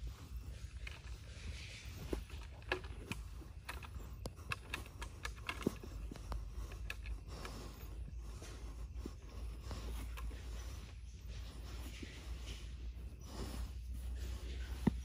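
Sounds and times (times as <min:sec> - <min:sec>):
crackles of dry roots: 0:00.0 - 0:15.0.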